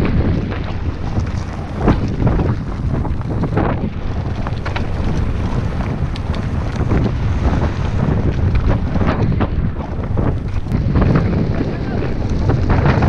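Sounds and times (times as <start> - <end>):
bike clicks and rattles: 0.0 - 13.0
tyres rolling over gravel: 0.0 - 13.0
wind buffeting microphone: 0.0 - 13.0.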